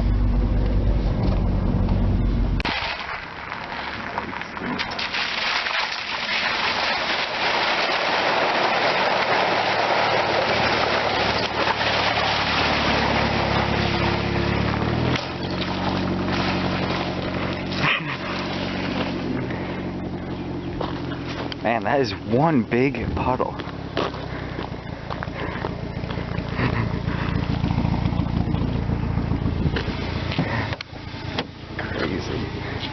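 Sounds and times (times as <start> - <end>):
car engine humming: 0.0 - 32.9
water spraying under car tyres: 2.6 - 21.7, 25.3 - 32.9.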